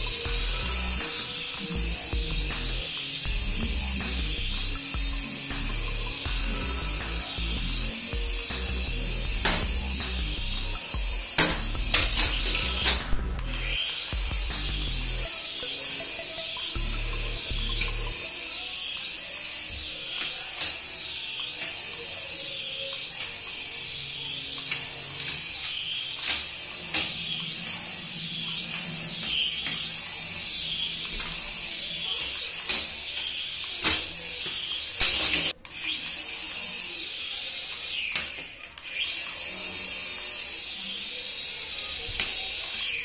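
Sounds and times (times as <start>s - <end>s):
toy helicopter rotors whining: 0.0s - 43.0s.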